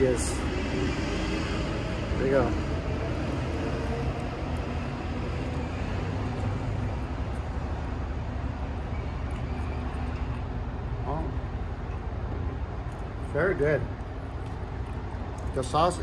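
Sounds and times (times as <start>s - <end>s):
urban traffic rumble: 0.0s - 16.0s
vehicle engine noise: 0.0s - 16.0s.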